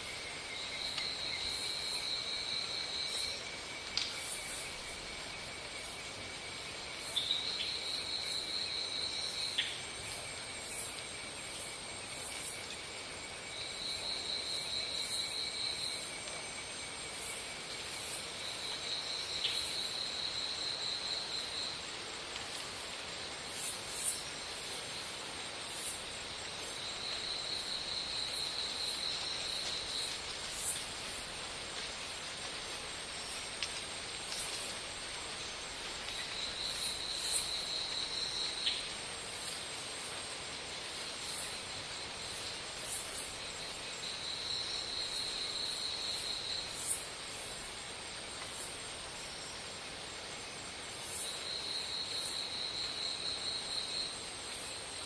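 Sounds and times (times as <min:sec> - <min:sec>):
insect trill: 0:00.0 - 0:55.0
insects buzzing: 0:00.0 - 0:55.0.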